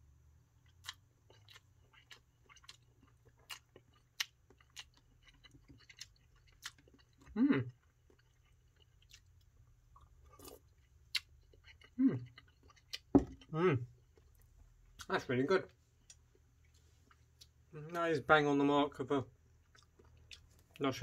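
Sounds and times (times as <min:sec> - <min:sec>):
person chewing noodles: 0:00.6 - 0:15.1, 0:16.0 - 0:17.7, 0:19.5 - 0:20.8.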